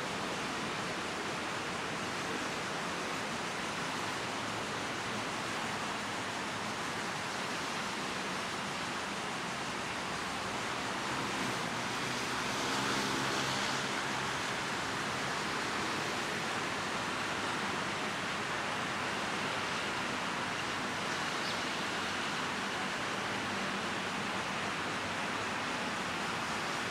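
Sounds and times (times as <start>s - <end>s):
steady outdoor hiss: 0.0s - 26.9s.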